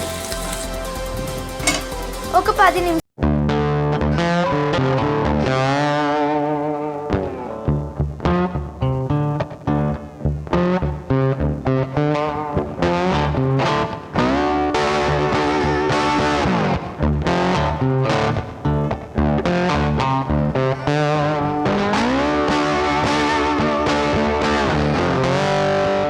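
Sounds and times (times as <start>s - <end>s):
distorted electric guitar music: 0.0s - 26.0s.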